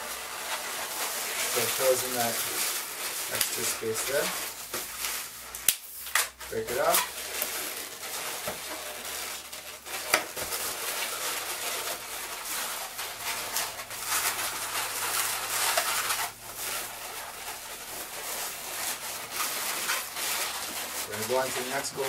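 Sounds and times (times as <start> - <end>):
balloons rubbing and squeaking: 0.0 - 22.0.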